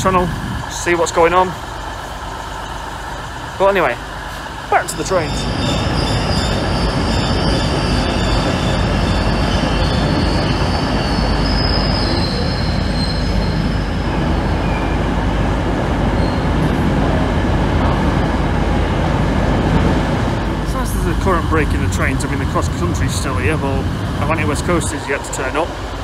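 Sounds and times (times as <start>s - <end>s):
wheels squealing on rails: 0.0s - 18.2s, 20.6s - 26.0s
train running noise: 0.0s - 26.0s.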